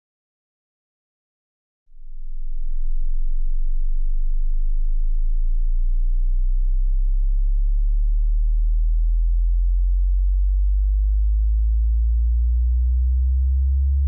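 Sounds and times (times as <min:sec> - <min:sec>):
low sine test tone: 0:01.9 - 0:14.0.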